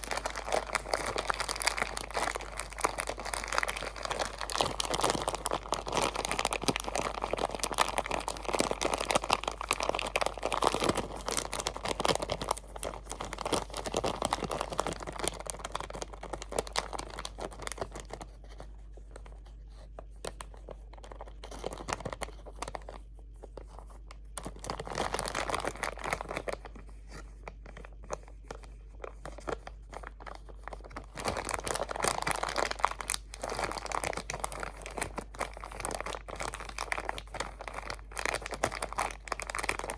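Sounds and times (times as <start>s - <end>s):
crinkly material crumpled: 0.0s - 39.9s.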